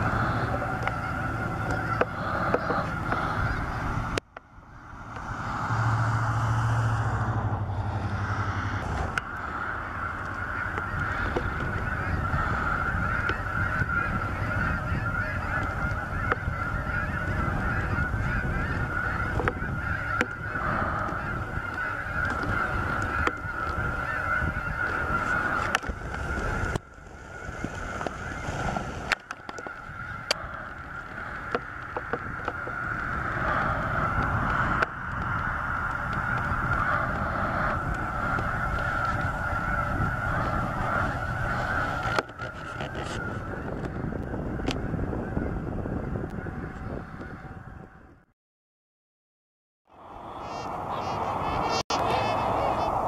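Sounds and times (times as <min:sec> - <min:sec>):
geese honking: 0:00.0 - 0:48.2, 0:50.2 - 0:53.0.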